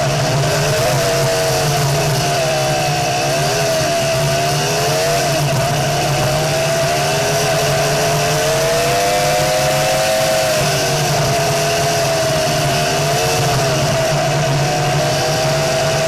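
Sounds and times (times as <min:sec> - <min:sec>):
buggy engine running: 0:00.0 - 0:16.0.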